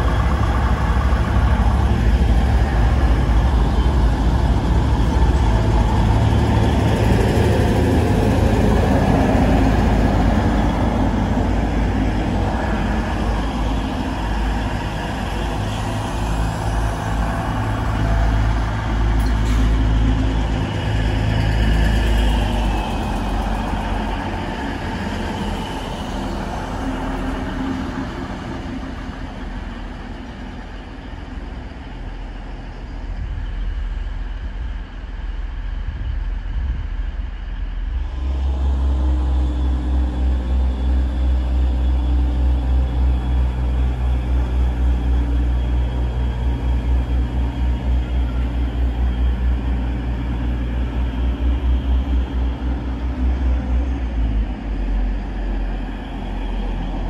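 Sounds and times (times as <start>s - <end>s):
low throbbing engine drone: 0.0s - 57.0s
train pulling out: 0.0s - 57.0s.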